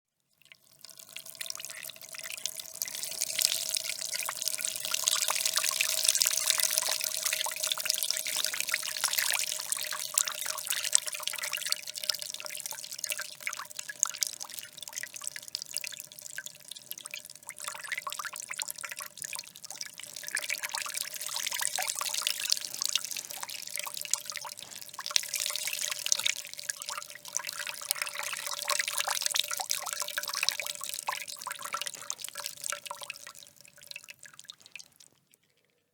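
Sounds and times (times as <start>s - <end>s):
water trickling and splashing: 0.3s - 35.7s.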